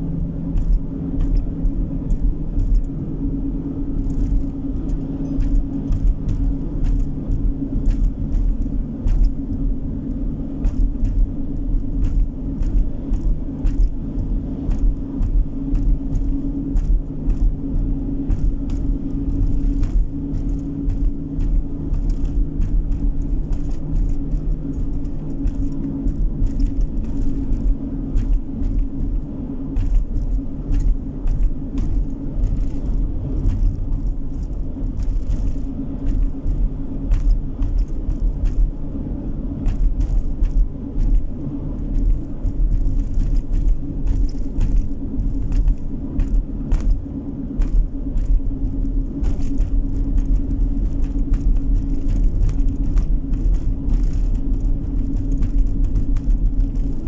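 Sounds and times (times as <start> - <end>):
car road and engine rumble: 0.0 - 57.0
small clicks and rattles: 0.5 - 3.0, 3.9 - 57.0.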